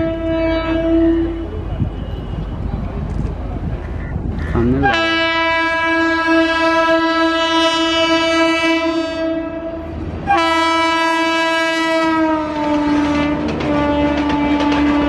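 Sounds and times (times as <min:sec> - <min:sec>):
train air horn blasts: 0:00.0 - 0:02.6, 0:04.6 - 0:15.0
train rumble: 0:00.0 - 0:15.0.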